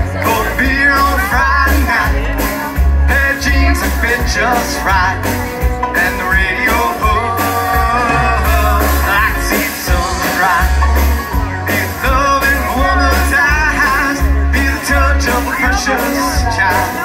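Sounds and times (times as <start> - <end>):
live country-rock band: 0.0 - 17.0.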